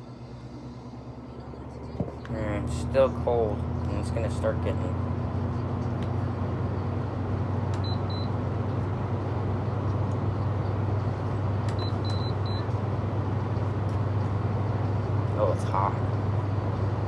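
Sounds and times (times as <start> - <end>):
window air conditioner humming: 0.0 - 17.0.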